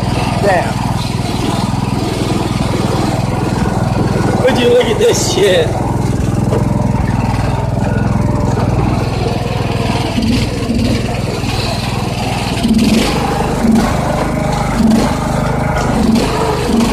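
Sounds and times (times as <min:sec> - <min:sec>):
riding lawn mower engine running: 0:00.0 - 0:16.9.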